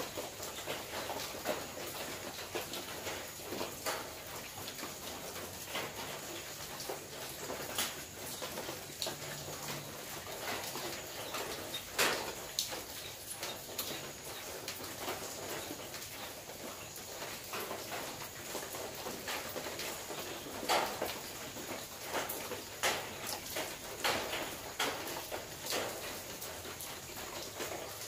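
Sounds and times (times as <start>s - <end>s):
rain pattering on a metal roof: 0.0s - 28.0s.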